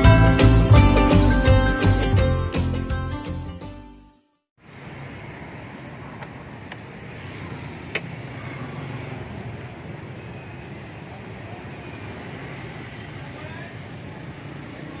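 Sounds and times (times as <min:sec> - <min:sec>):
street traffic: 0:00.0 - 0:02.7, 0:04.6 - 0:15.0.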